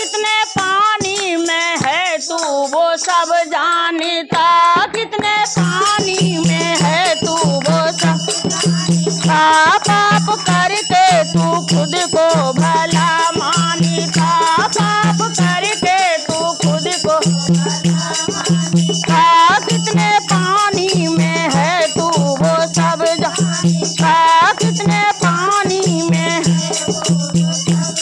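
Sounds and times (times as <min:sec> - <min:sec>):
small metal bell jingling: 0:00.0 - 0:28.0
women singing devotional song: 0:00.0 - 0:28.0
hand drum folk beat: 0:04.3 - 0:28.0.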